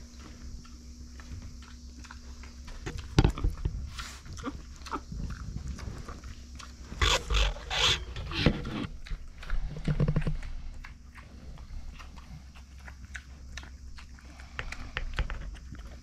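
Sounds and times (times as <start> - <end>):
pig sniffing and snuffling: 0.0 - 16.0.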